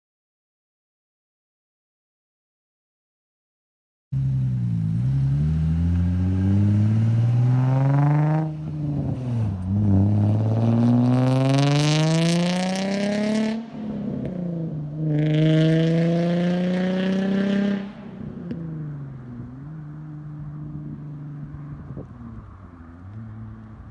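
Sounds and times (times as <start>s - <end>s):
raspy car exhaust accelerating: 4.2s - 23.9s.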